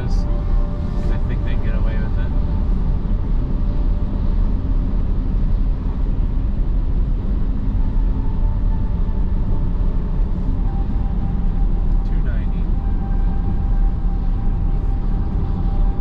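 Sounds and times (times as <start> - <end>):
car engine hum: 0.0 - 16.0
road and tyre noise: 0.0 - 16.0.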